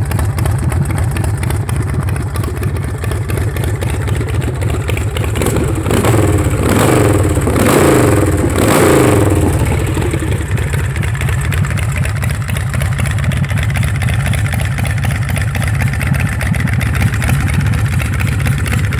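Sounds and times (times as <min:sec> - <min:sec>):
motorcycle engine idling: 0:00.0 - 0:18.9
motorcycle engine revving: 0:00.0 - 0:18.9.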